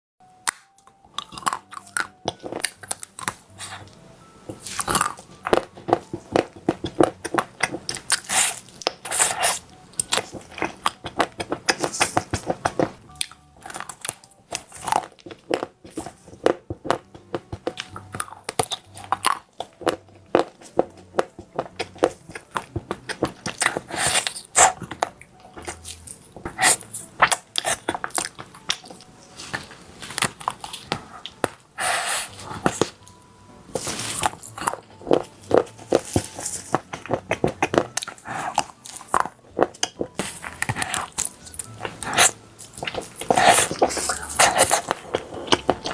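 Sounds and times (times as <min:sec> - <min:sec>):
person chewing crispy food: 0:00.4 - 0:45.9.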